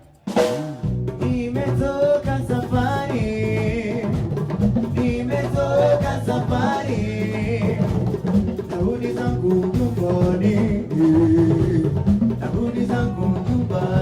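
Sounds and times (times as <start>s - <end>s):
band playing live: 0.0s - 14.0s
drums: 0.0s - 14.0s
person singing: 1.2s - 4.2s, 4.8s - 14.0s.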